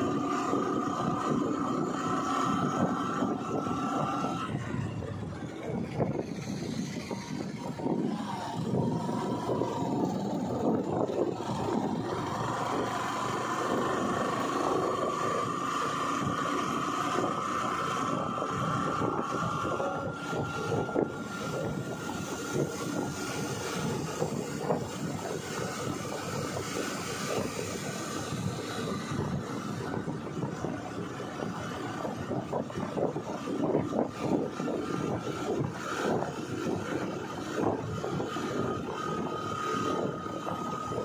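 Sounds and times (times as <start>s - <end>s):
road and wind noise: 0.0s - 41.0s.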